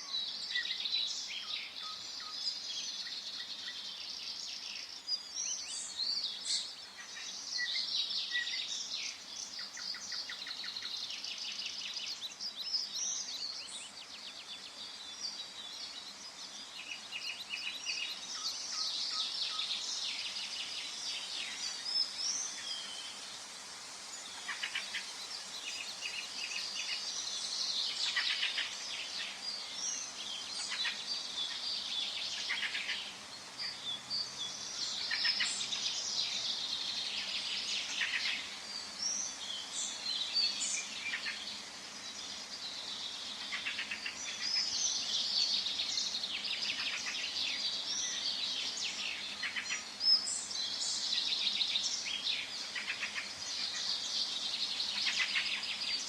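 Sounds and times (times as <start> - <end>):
birds chirping and trilling: 0.0 - 23.4, 24.1 - 56.0.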